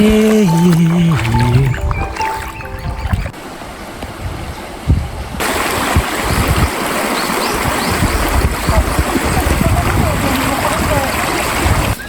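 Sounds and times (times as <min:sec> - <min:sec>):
river water flowing: 0:00.2 - 0:12.0.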